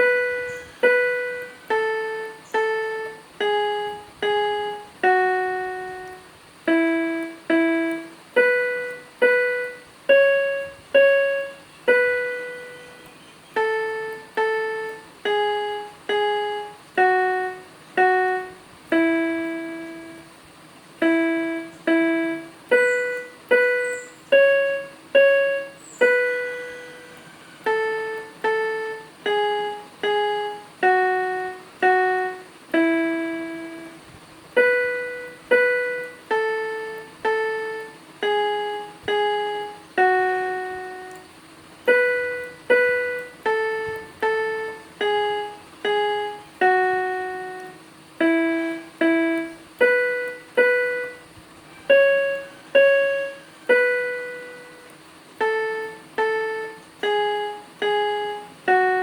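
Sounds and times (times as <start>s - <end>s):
slow piano melody: 0.0s - 59.0s.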